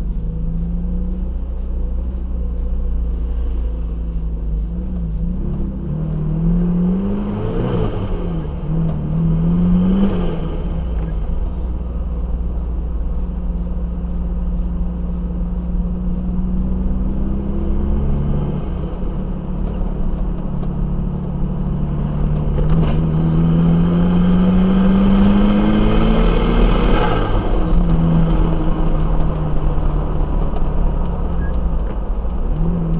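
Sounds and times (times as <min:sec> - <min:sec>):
turbocharged engine revving: 0:00.0 - 0:32.9.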